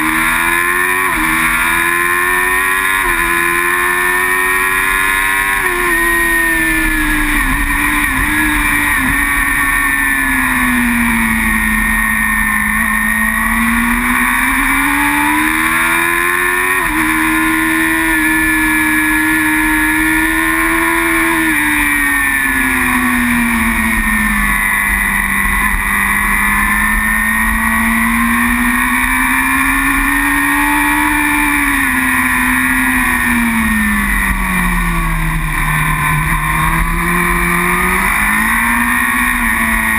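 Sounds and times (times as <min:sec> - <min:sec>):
racing motorbike engine: 0:00.0 - 0:39.9
wind and road rush: 0:00.0 - 0:39.9.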